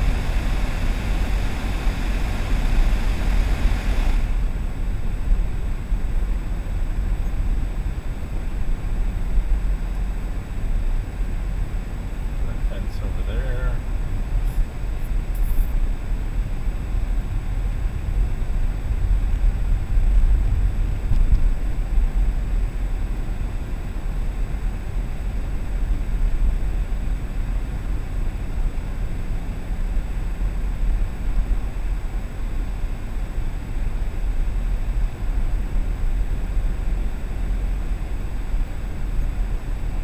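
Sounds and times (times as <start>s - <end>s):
car engine and tyre noise: 0.0s - 40.0s.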